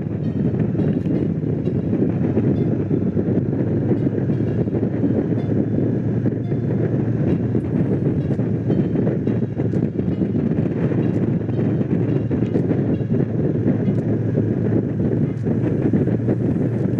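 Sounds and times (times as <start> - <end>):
wind rushing over microphone: 0.0 - 16.9.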